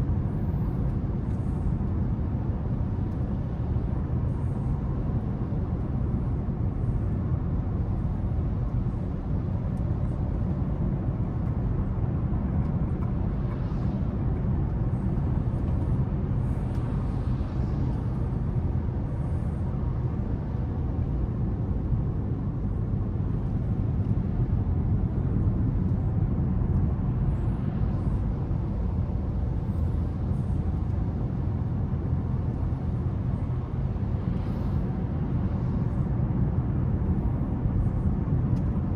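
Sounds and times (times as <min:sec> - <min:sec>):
car engine and tyre road noise: 0:00.0 - 0:38.9.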